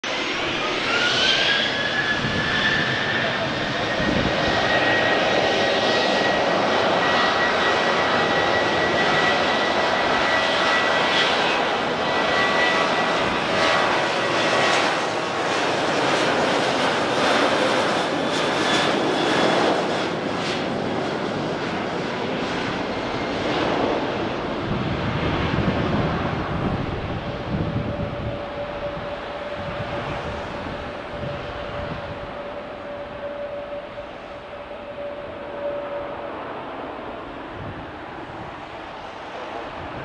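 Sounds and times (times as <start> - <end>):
jet engines at takeoff power: 0.0 - 40.0.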